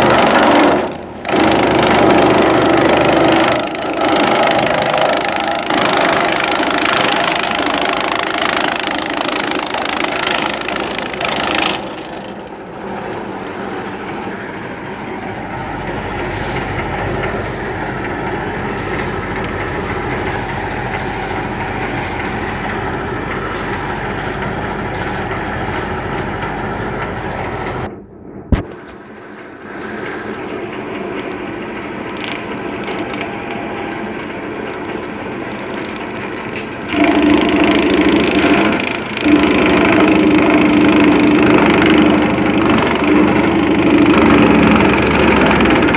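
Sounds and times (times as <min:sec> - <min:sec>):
small engine running: 0:00.0 - 0:27.9, 0:28.6 - 0:45.9.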